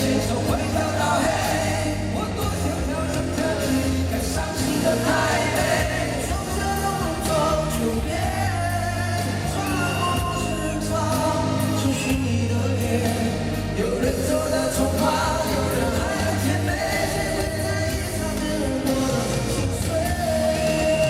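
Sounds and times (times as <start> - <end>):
live band music: 0.0 - 21.0
people singing: 0.0 - 21.0
steady bass line: 0.0 - 21.0.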